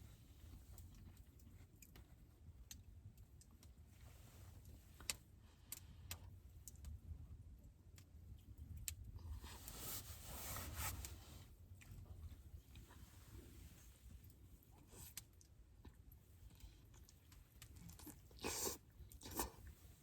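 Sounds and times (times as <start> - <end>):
soft rustling hiss: 0.0 - 7.1, 7.8 - 20.0.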